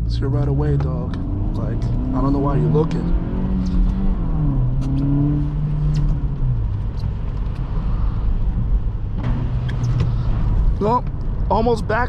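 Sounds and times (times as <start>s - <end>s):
car engine: 0.0s - 12.0s
tyre and road rumble: 0.0s - 12.0s.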